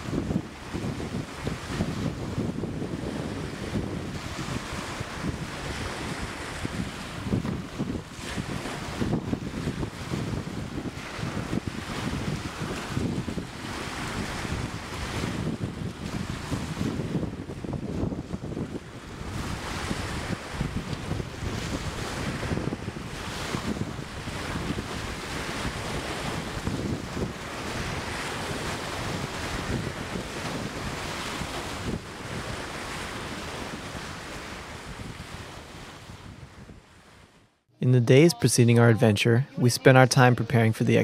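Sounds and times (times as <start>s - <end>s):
wind buffeting microphone: 0.0s - 37.4s
surf on shore: 0.0s - 41.0s.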